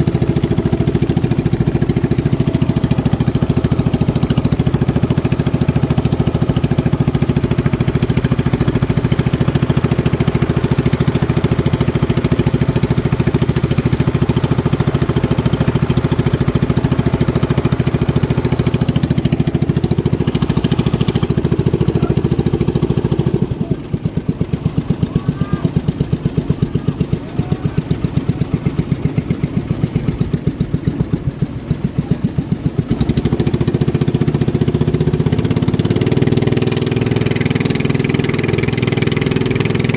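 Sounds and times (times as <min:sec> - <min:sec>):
racing boat engines: 0:00.0 - 0:39.9.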